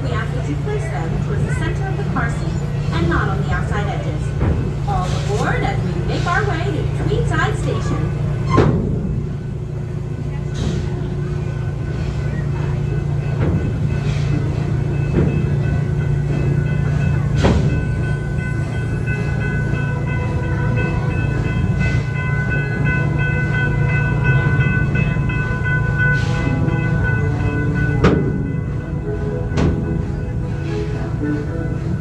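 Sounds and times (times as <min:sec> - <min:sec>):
train rolling with low rumble: 0:00.0 - 0:32.0.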